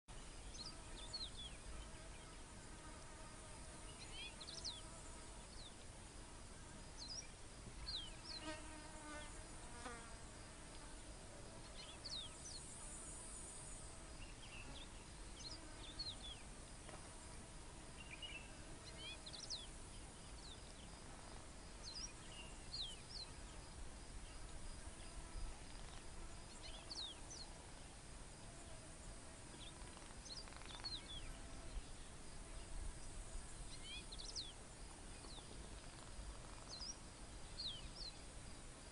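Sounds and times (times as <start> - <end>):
insect buzz: 0.1 - 38.9.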